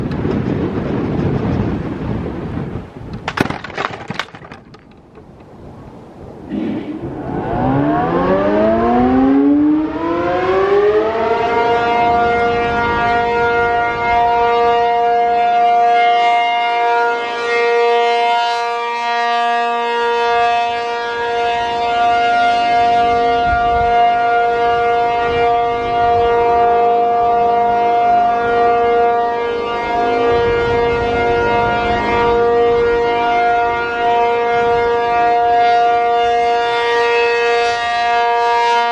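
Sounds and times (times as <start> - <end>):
outdoor warning siren: 5.6 - 38.9.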